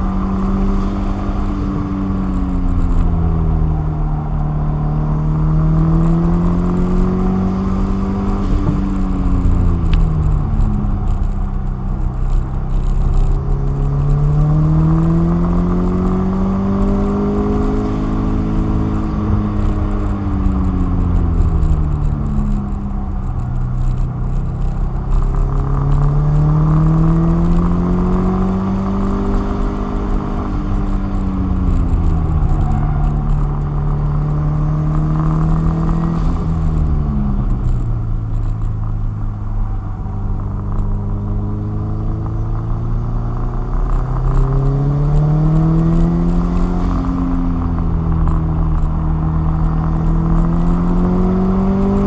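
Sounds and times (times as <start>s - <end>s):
car engine accelerating: 0.0s - 52.0s
road and tyre noise: 0.0s - 52.0s.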